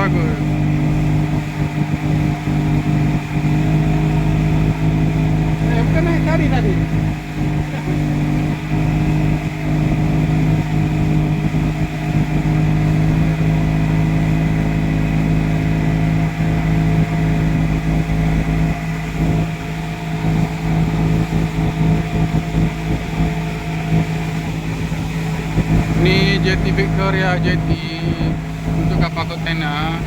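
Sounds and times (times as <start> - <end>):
boat engine droning: 0.0 - 30.0
wind and water rumble: 0.0 - 30.0.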